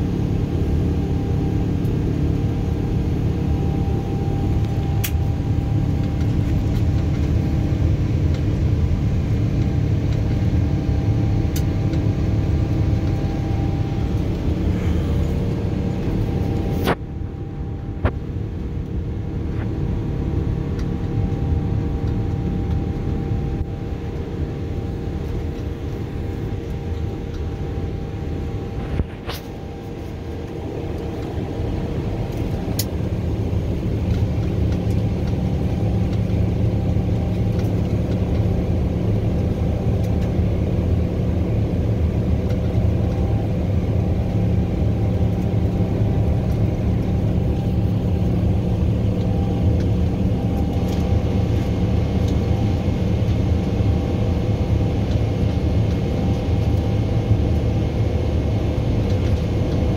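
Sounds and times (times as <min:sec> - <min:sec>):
faint steady hum: 0:00.0 - 0:59.9
jet engine cabin rumble: 0:00.0 - 0:59.9.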